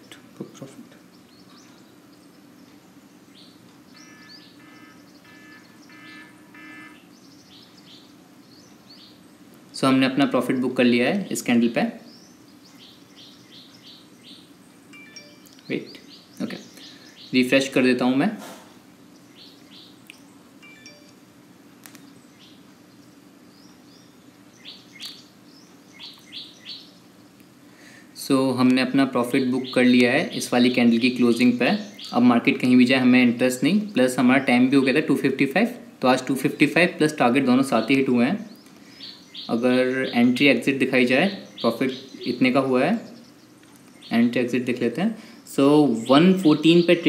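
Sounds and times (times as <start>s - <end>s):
buzzy repeated bird calls: 0.0s - 47.0s
faint birds chirping: 0.0s - 47.0s
low steady hum: 0.0s - 47.0s.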